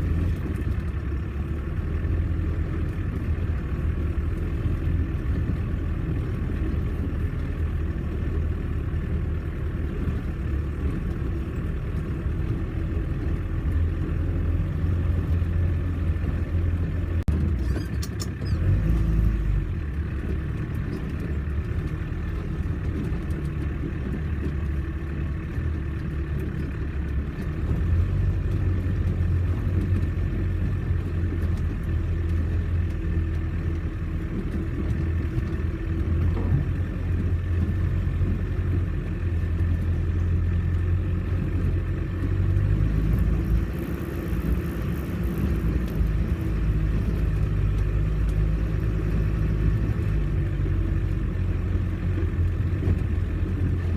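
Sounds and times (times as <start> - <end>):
vehicle engine running at low revs: 0.0 - 53.9.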